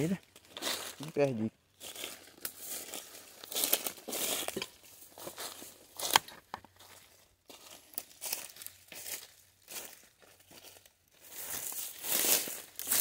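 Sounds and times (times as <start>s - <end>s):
dry leaves rustling and crackling: 0.0s - 6.2s, 6.8s - 13.0s
footfalls in undergrowth: 0.2s - 1.2s, 1.8s - 13.0s.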